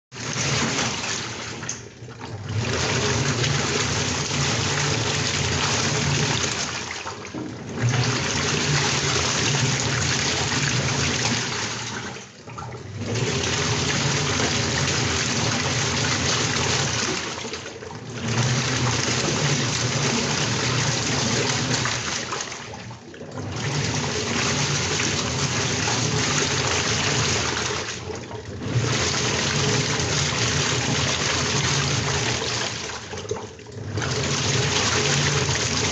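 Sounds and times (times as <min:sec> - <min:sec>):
water churning in washing machine: 0:00.1 - 0:35.9.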